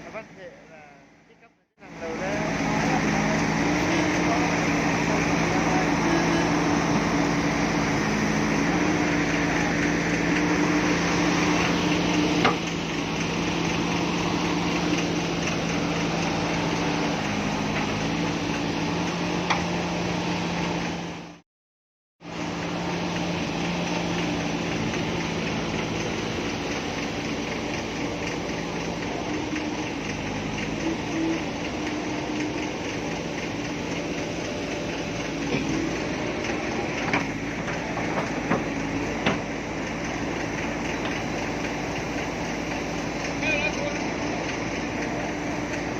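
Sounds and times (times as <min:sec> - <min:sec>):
heavy diesel engine running: 0:00.0 - 0:21.4, 0:22.2 - 0:45.9.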